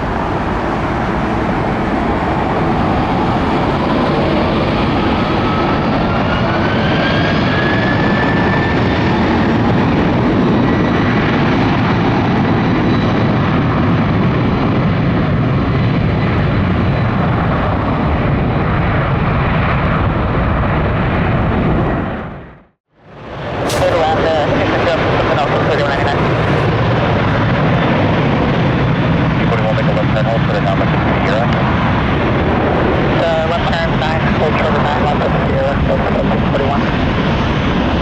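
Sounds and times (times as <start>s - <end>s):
jet engines whining: 0.0s - 22.4s, 23.4s - 38.0s.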